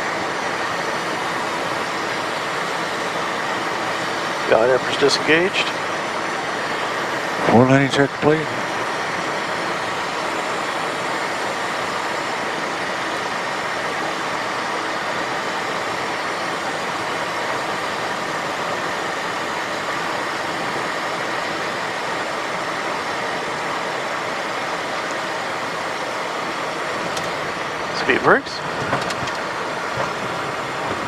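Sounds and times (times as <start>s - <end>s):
jet engines and air rushing: 0.0s - 31.0s.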